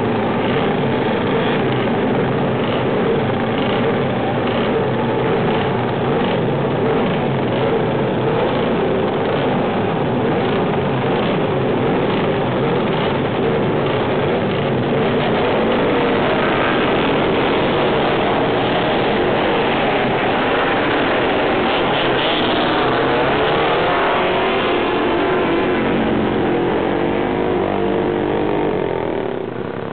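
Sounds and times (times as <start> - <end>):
motorcycle engines revving: 0.0 - 29.9.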